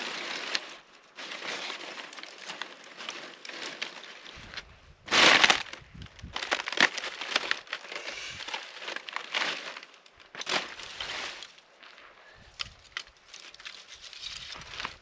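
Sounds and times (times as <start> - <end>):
crunching and rustling: 0.0 - 15.0.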